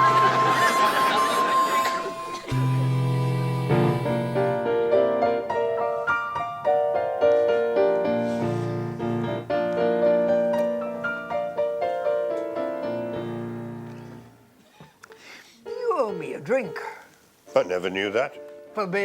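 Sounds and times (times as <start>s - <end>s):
piano playing lively tune: 0.0s - 14.3s, 15.7s - 19.0s.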